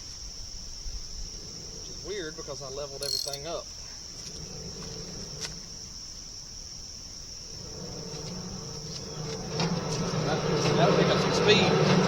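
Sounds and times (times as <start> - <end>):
faint low hum: 0.0 - 12.0
insects trilling: 0.0 - 12.0.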